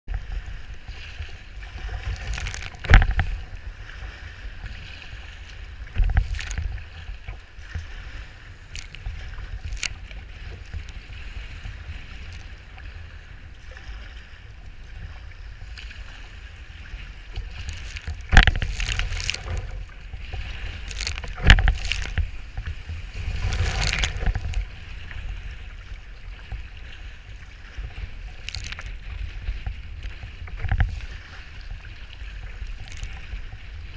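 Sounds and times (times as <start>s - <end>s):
water sloshing: 0.1s - 33.9s
waves splashing against boat: 0.1s - 33.9s
wind rumble on microphone: 0.1s - 33.9s.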